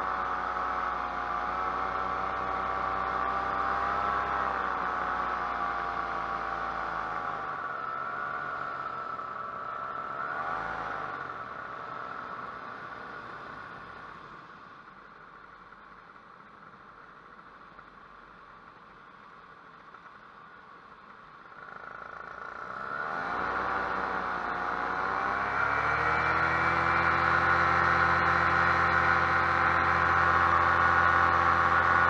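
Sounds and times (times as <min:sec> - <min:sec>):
paramotor engine running: 0:00.0 - 0:32.0.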